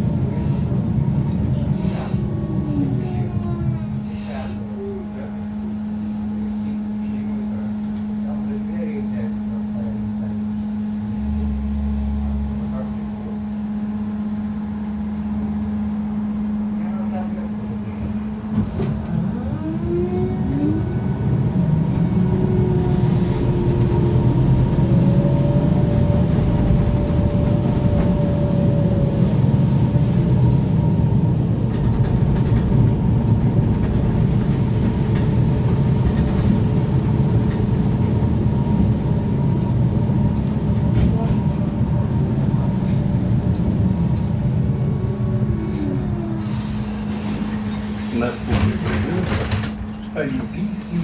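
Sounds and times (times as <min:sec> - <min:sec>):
trolleybus interior rumble and hum: 0:00.0 - 0:51.0.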